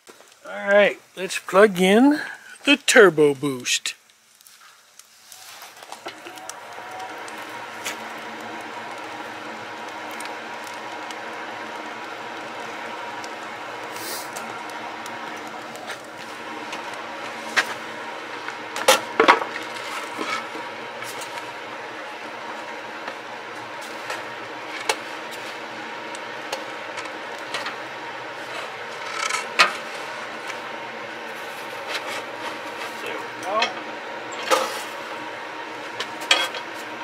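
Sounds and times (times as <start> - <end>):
electric blower fan whirring: 5.4 - 37.0.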